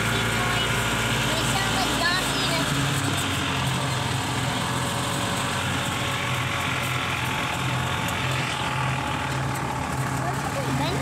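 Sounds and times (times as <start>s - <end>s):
golf cart driving: 0.0s - 11.0s.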